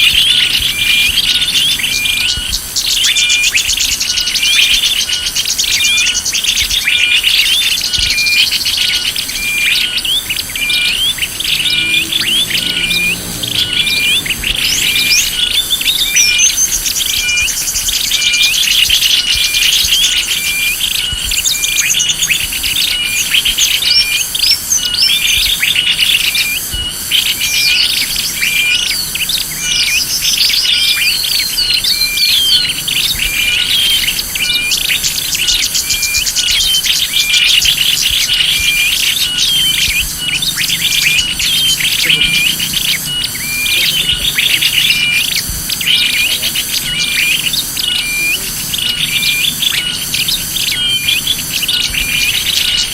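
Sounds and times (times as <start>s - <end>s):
birds chirping and trilling: 0.0s - 52.9s.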